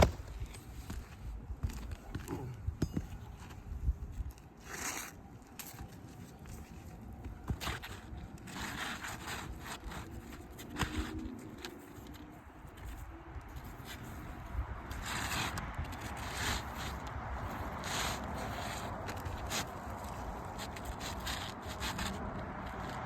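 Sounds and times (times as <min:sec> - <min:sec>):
shingles scraping and rustling: 0:04.4 - 0:23.0.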